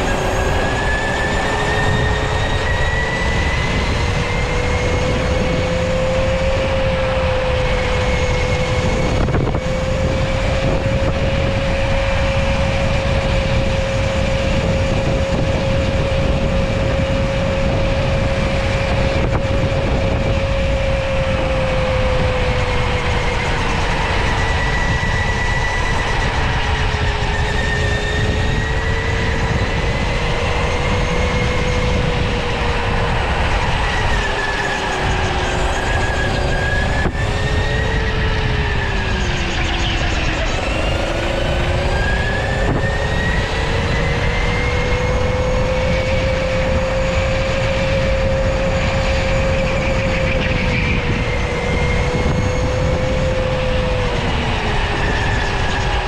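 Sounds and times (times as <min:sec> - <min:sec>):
electric go-kart motor whining: 0:00.0 - 0:56.0
low rumble of driving: 0:00.0 - 0:56.0.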